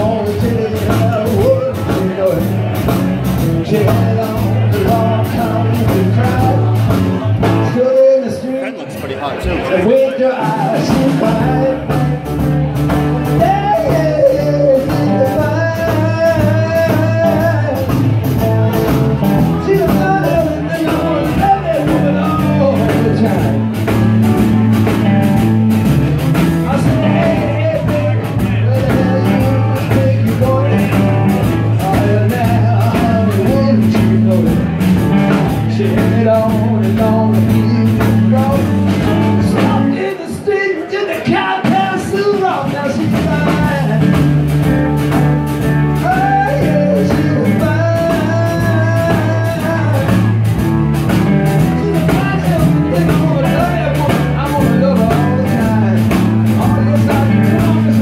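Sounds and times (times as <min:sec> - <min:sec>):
person singing: 0:00.0 - 0:08.8, 0:09.5 - 0:24.2, 0:26.4 - 0:58.0
blues-rock band playing: 0:00.0 - 0:58.0.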